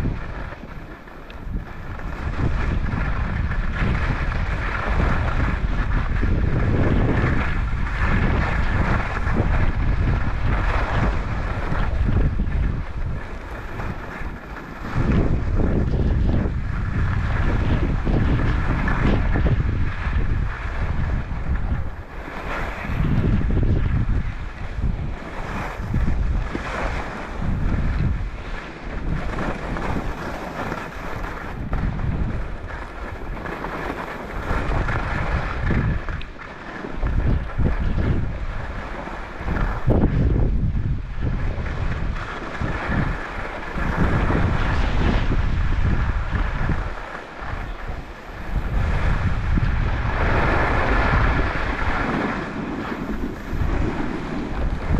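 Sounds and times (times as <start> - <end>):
skis scraping over snow: 0.0 - 54.9
wind buffeting microphone: 0.0 - 54.9.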